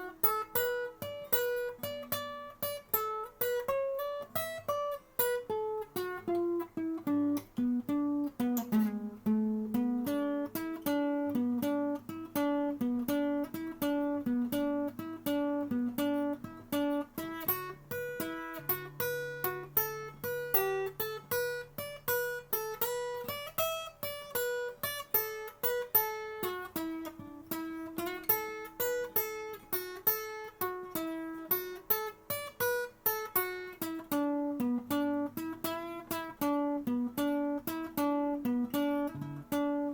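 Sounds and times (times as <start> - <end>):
acoustic guitar instrumental: 0.0 - 39.9.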